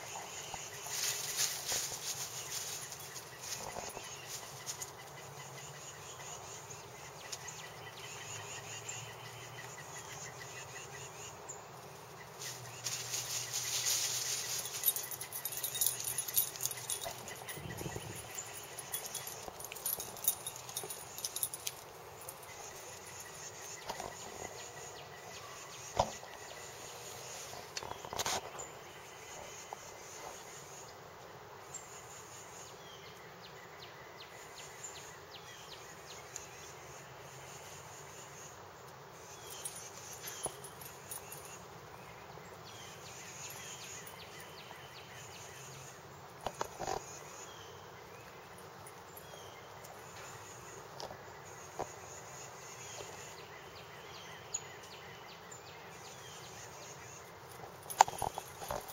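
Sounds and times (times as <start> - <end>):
faint hum of insects: 0.0 - 58.9.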